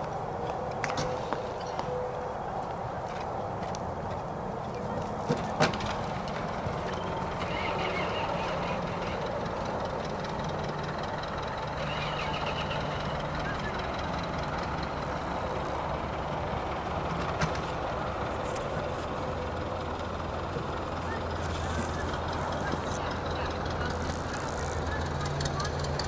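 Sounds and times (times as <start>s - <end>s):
low outdoor background rumble: 0.1s - 26.0s.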